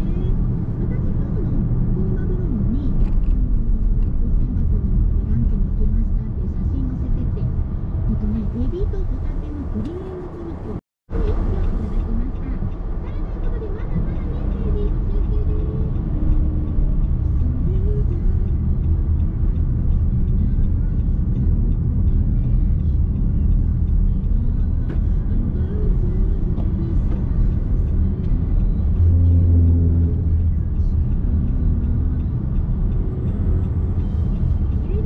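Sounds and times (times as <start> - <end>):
road and tyre rumble: 0.0 - 35.0.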